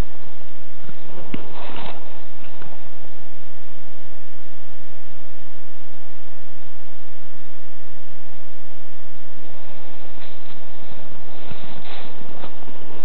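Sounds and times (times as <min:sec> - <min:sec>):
faint constant tones: 0:00.0 - 0:13.0
steady hum and hiss: 0:00.0 - 0:13.0.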